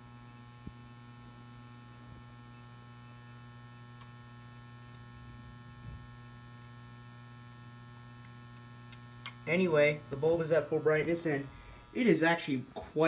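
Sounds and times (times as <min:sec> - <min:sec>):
lamp ballast hum: 0:00.0 - 0:13.0.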